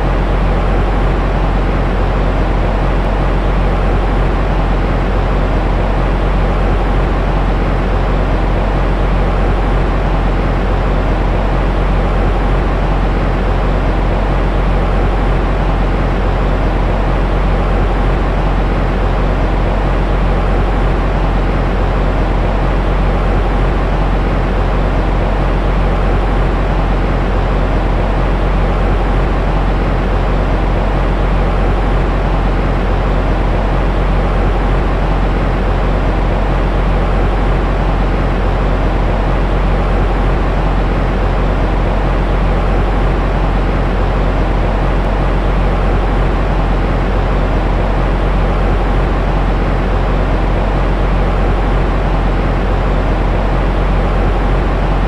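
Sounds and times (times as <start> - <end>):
deep steady noise: 0.0 - 55.0.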